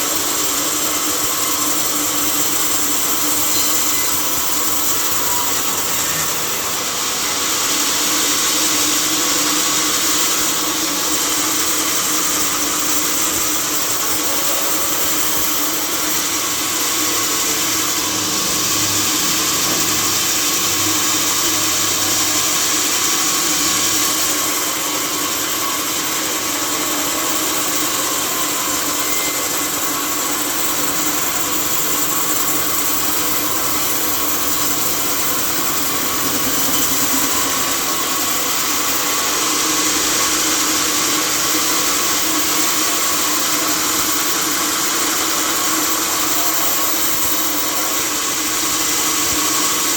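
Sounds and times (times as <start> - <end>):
sawmill saw rushing: 0.0 - 49.9.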